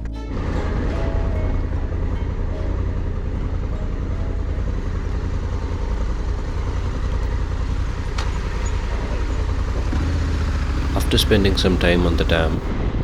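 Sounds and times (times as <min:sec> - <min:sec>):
motorcycle engine rumbling: 0:00.4 - 0:12.7.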